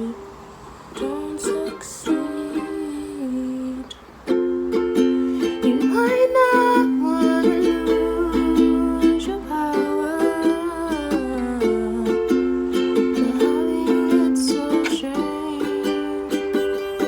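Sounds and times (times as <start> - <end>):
ukulele strumming chords: 1.0 - 17.0.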